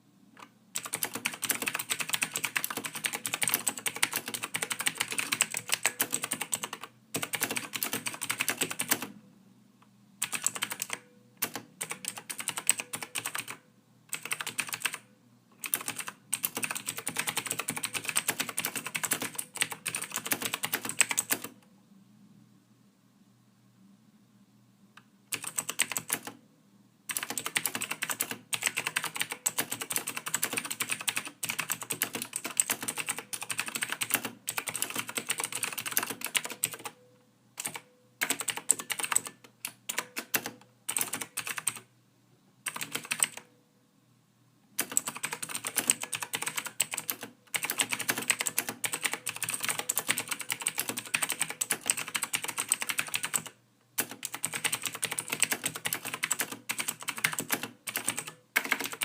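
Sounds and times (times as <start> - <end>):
typing on computer keyboard: 0.4 - 9.1, 10.2 - 21.6, 25.3 - 26.4, 27.1 - 37.0, 37.6 - 41.9, 42.7 - 43.5, 44.8 - 59.0.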